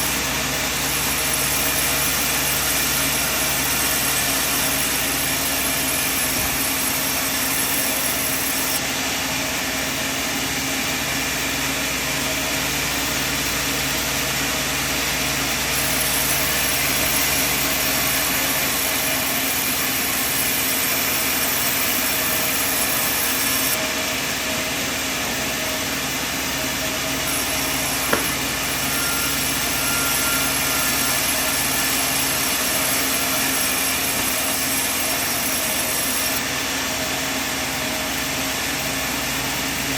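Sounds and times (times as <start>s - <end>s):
sawmill machine drone: 0.0s - 39.9s.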